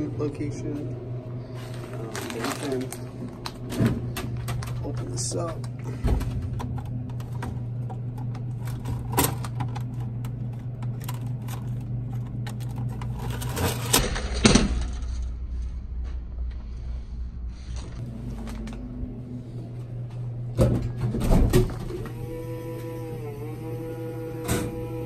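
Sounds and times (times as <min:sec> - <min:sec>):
vending machine humming: 0:00.0 - 0:25.0.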